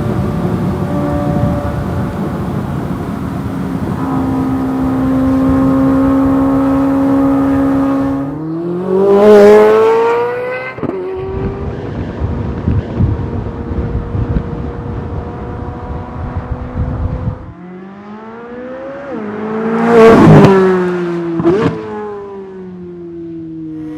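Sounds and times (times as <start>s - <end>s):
sports car engine revving: 0.0s - 22.2s.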